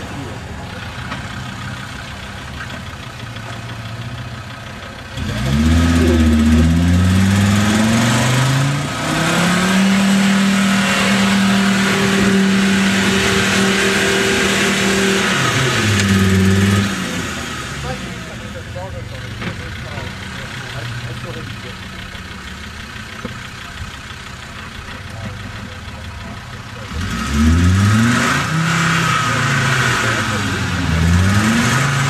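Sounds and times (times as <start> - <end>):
vehicle churning through mud: 0.0 - 22.7, 24.6 - 32.0
off-road vehicle engine revving: 0.0 - 32.0.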